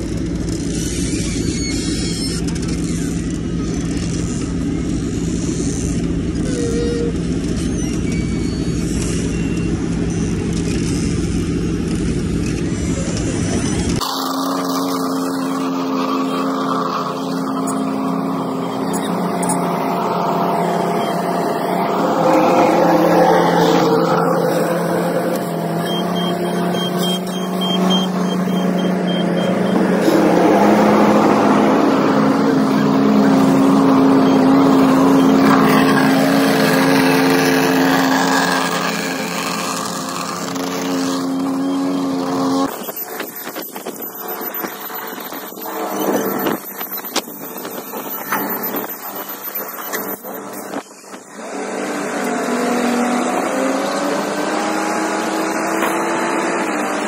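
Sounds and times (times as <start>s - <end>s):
heavy diesel machinery droning: 0.0s - 57.0s.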